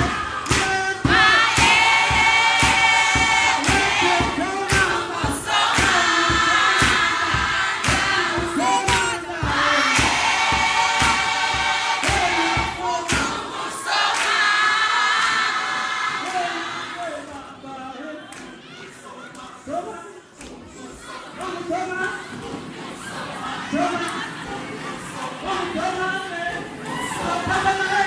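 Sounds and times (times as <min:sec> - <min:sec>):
thumping beat: 0:00.0 - 0:17.6, 0:19.8 - 0:28.0
vocal group singing in harmony: 0:00.0 - 0:28.0.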